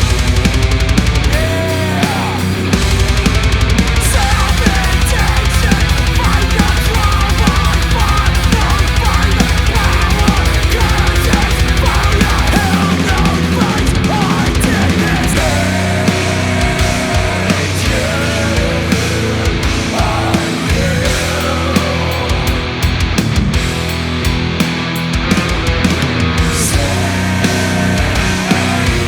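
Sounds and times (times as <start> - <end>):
black metal music: 0.0 - 29.0.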